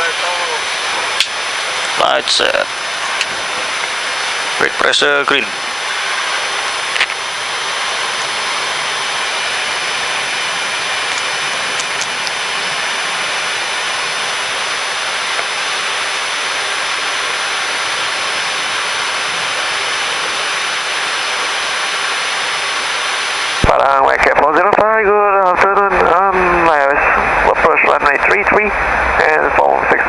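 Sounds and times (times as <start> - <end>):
faint high whines: 0.0 - 30.0
jet engines idling hiss: 0.0 - 30.0.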